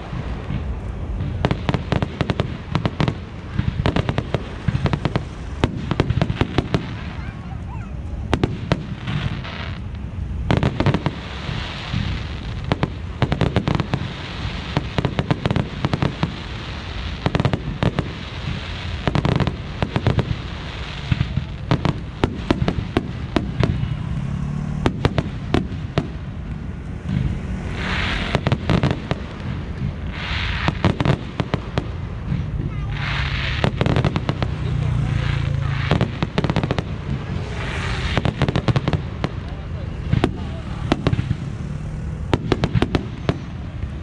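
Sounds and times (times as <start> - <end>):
fireworks crackling: 0.0 - 44.0.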